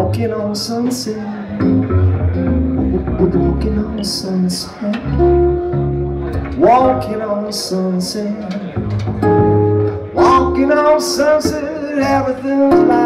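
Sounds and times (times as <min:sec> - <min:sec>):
upright bass line: 0:00.0 - 0:07.5, 0:08.7 - 0:13.0
vocal or melodic lines: 0:00.0 - 0:08.8, 0:09.6 - 0:13.0
acoustic guitars strumming: 0:00.1 - 0:13.0.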